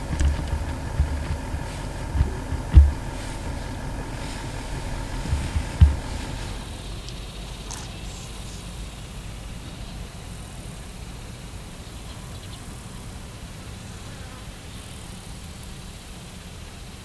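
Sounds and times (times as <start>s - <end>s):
faint high drone: 0.0s - 14.9s
constant low rumble: 0.0s - 17.0s
insects buzzing: 0.0s - 17.0s.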